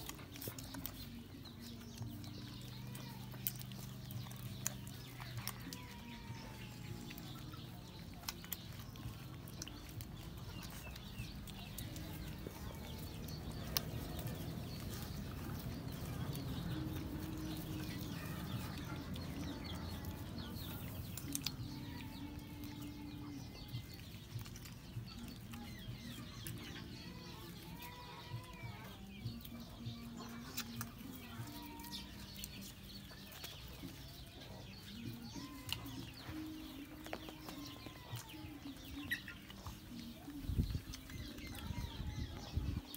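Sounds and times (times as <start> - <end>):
puppies suckling: 0.0 - 42.9
chicken clucking: 7.0 - 42.9.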